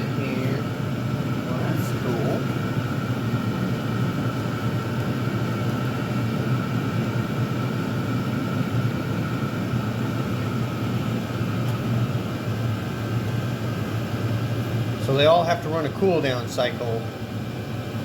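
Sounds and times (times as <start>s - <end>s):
constant hum with thin whine: 0.0s - 18.0s
heater fan whirring: 0.0s - 18.0s.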